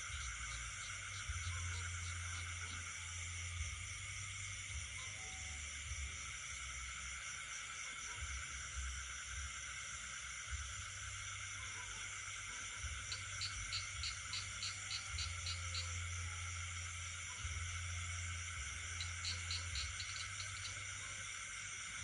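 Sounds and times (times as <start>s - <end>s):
frogs: 0.0s - 22.0s
high-pitched insect trills: 0.0s - 22.0s.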